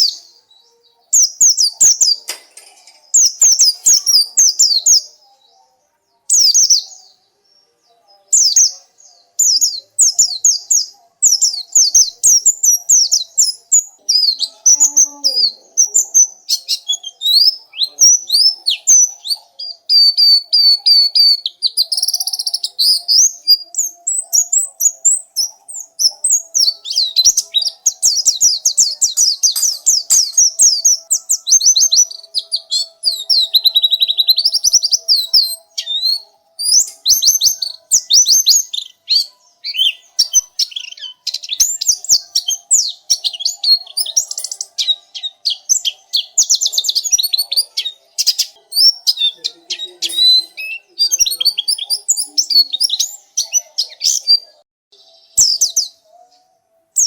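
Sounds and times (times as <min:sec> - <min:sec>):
bird twittering song: 0:00.0 - 0:56.4.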